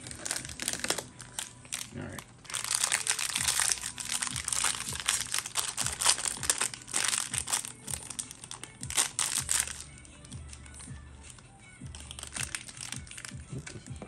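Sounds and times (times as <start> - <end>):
packaging crinkling: 0.0 - 14.0.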